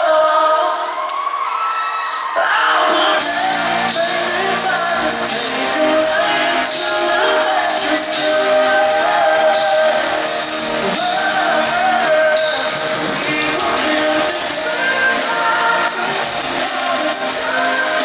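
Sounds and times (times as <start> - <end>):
live pop band playing: 2.0 - 18.0.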